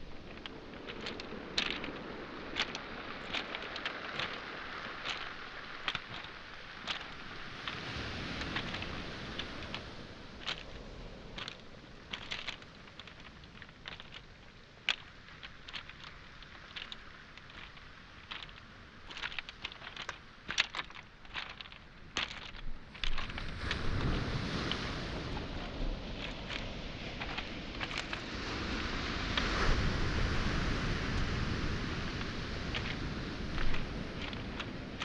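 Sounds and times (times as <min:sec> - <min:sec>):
footsteps on pebbles: 0:00.0 - 0:35.0
wave washing up shore: 0:00.0 - 0:35.0.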